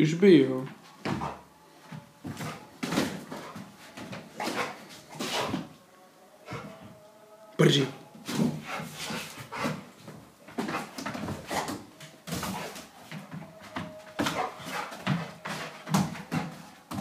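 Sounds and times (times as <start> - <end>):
dog paws thumping: 0.7 - 5.7, 8.3 - 17.0.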